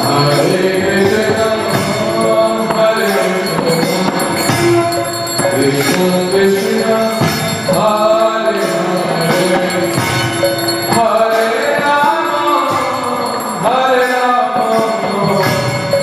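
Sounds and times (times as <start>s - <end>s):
bells ringing: 0.0s - 16.0s
hand cymbals: 0.0s - 16.0s
voices singing devotional melody: 0.0s - 16.0s.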